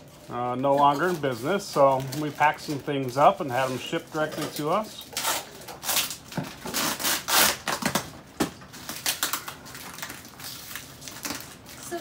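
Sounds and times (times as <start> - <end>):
packing tape tearing: 0.9 - 12.0.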